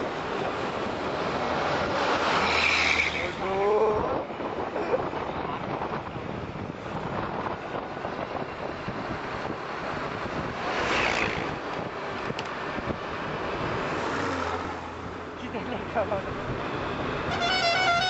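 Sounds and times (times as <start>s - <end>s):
wind rushing over microphone: 0.0s - 15.2s
road vehicle rumble: 0.0s - 18.0s.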